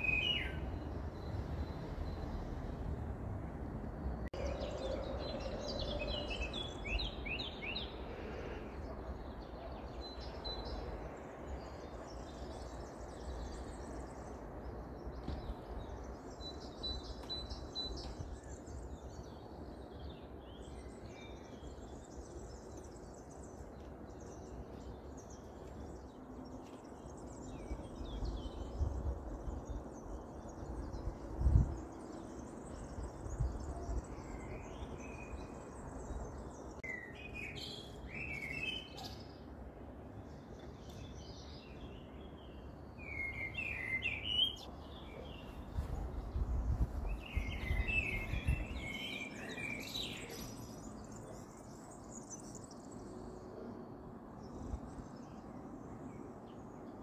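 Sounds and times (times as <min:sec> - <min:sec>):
songbirds chirping and singing: 0:00.0 - 0:02.9, 0:04.0 - 0:39.6, 0:40.2 - 0:57.0.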